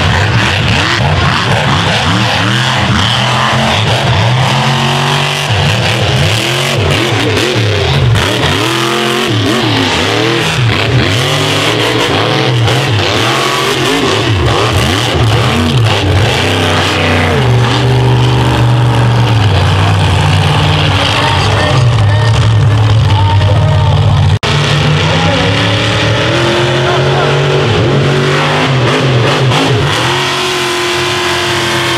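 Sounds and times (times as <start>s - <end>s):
truck engine revving: 0.0s - 31.9s.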